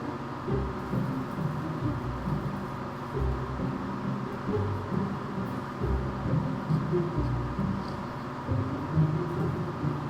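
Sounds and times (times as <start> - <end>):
background music with low notes: 0.0 - 10.0.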